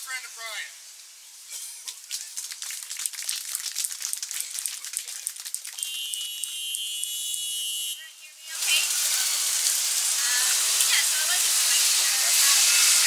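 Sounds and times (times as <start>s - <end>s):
thin crackling traffic hiss: 0.0s - 13.0s.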